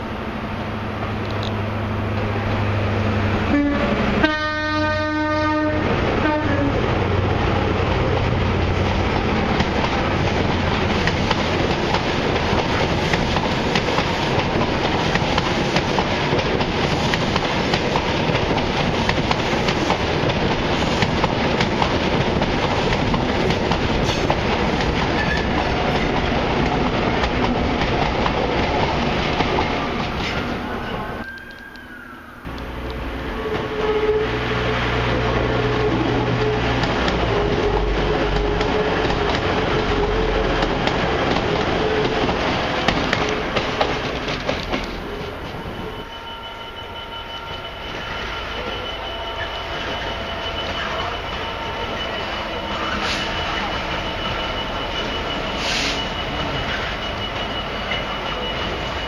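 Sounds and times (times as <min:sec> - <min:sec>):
diesel locomotive running: 0:00.0 - 0:59.0
train engine hum: 0:00.0 - 0:59.0
train wheels clickety-clack on rails: 0:01.0 - 0:31.7, 0:32.4 - 0:59.0.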